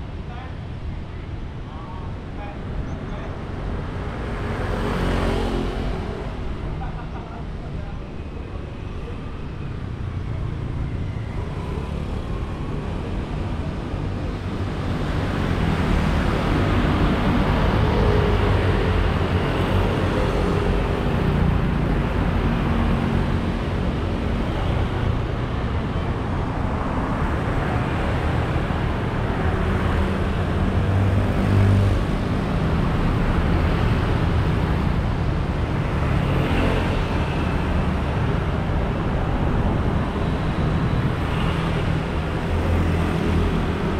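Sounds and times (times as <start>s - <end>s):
motorcycles and cars passing: 3.2s - 9.2s, 9.8s - 43.9s.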